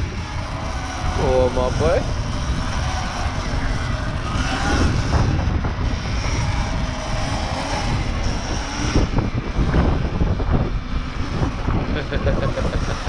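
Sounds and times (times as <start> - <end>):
faint high motor whine: 0.0 - 13.0
wind rumbling over microphone: 0.0 - 13.0.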